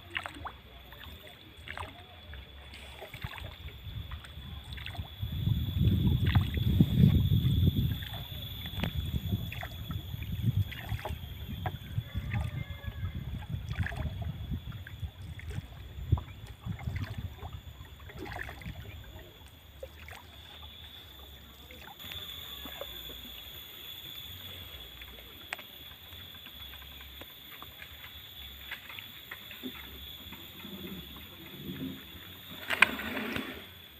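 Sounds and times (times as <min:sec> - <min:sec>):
water sloshing against hull: 0:00.0 - 0:33.9.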